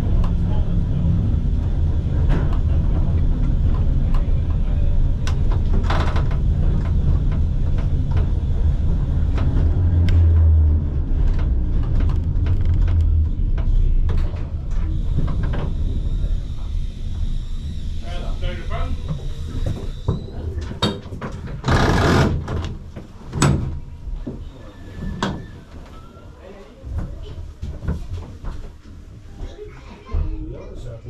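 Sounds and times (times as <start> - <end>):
tram rumbling on track: 0.0 - 26.0.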